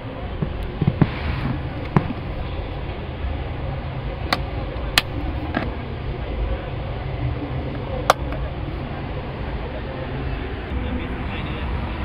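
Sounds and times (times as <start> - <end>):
low background rumble: 0.0 - 11.4.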